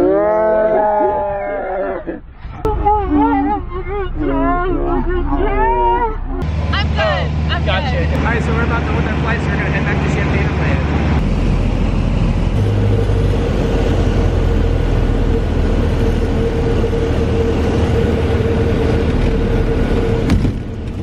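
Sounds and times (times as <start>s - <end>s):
plane engine drone in cabin: 2.6s - 21.0s.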